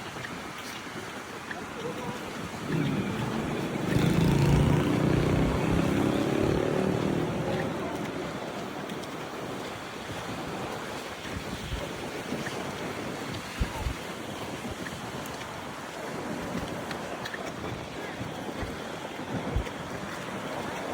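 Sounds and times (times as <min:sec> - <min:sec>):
surf on a beach: 0:00.0 - 0:20.9
wind buffeting microphone: 0:00.0 - 0:20.9.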